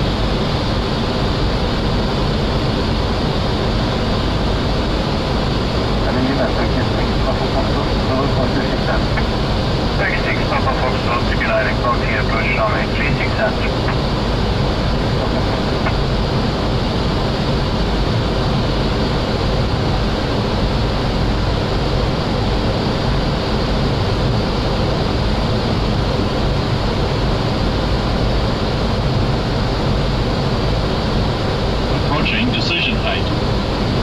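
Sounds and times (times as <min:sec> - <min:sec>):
airflow around flight deck: 0:00.0 - 0:34.0
jet engine noise: 0:00.0 - 0:34.0.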